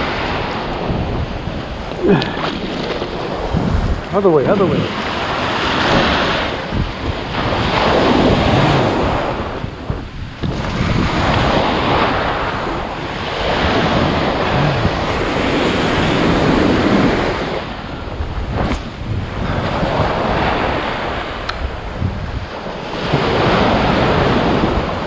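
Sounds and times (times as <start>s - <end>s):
ocean surf breaking: 0.0s - 25.0s
wind buffeting microphone: 0.0s - 25.0s.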